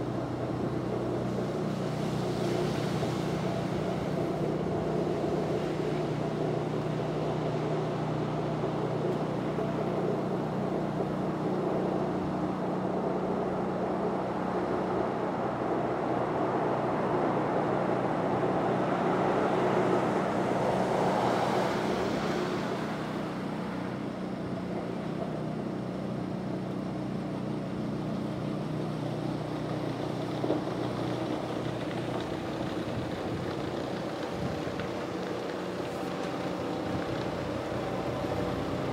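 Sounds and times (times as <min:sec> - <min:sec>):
tractor engine and snowblower running: 0:00.0 - 0:38.9.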